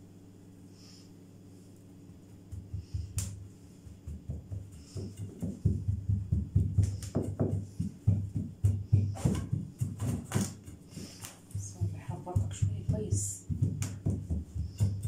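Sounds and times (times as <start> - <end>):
hands patting dough in metal tray: 2.1 - 15.0.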